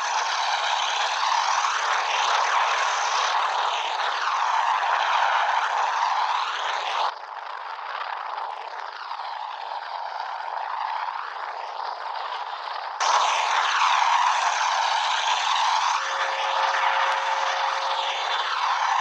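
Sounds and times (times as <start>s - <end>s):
aircraft drone in flight: 0.0s - 19.0s.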